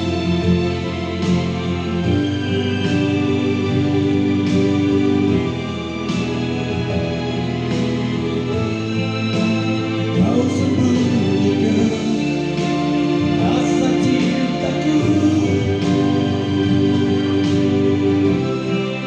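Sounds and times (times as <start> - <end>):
instrumental accompaniment: 0.0 - 19.0
person singing ballad: 0.0 - 19.0.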